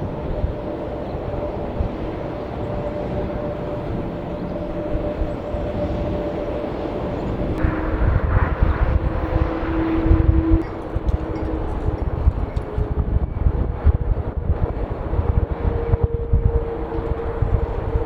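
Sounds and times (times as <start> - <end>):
jet airliner engines running: 0.0 - 18.0.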